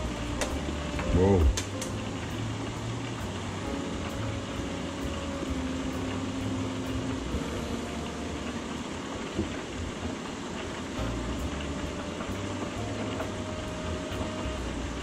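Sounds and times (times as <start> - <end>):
low hum: 0.0 - 15.0
squid sizzling in oil: 1.6 - 15.0.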